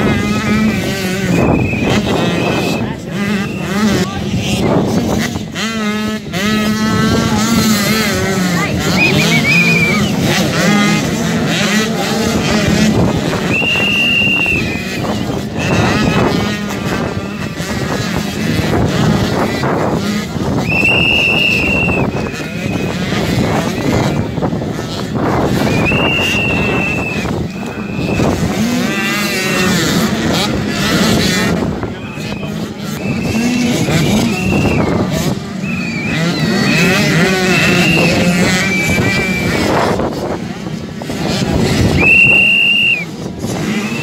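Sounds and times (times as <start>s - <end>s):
motocross bike engines revving: 0.0s - 44.0s.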